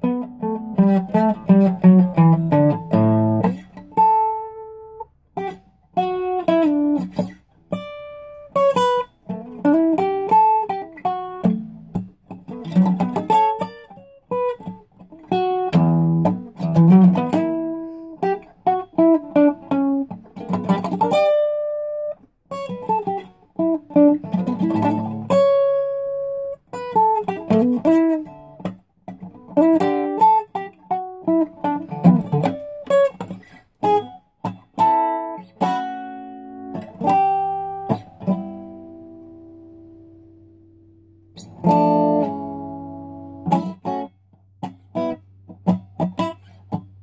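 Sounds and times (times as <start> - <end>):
acoustic guitar playing: 0.0 - 47.0.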